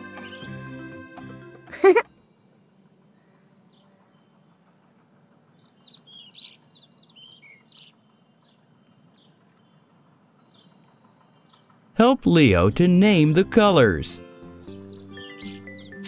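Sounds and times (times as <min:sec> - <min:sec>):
birds chirping: 0:03.1 - 0:16.0.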